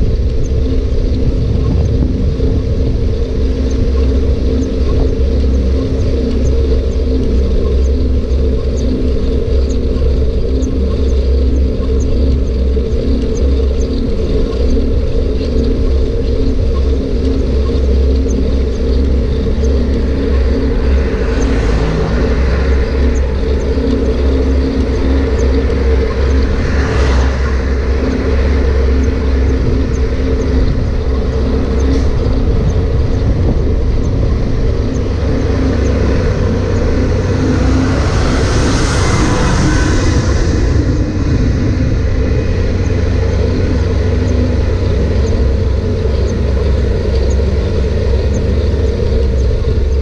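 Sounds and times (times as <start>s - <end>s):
wind and road noise: 0.0s - 50.0s.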